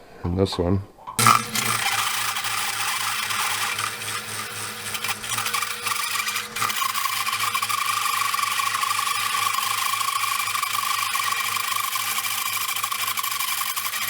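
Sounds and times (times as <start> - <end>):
drill cutting metal: 1.2 - 14.0
motor pulsing hum: 1.2 - 14.0.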